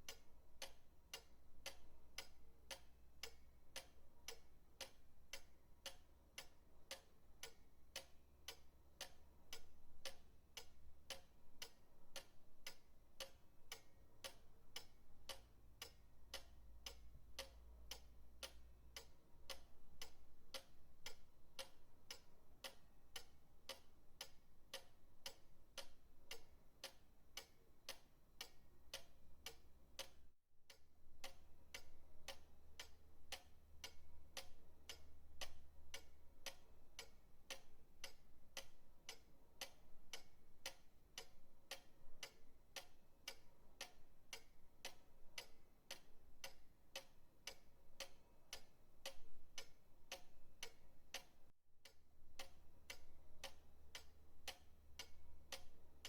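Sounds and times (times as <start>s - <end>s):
pendulum clock ticking: 0.0s - 56.0s.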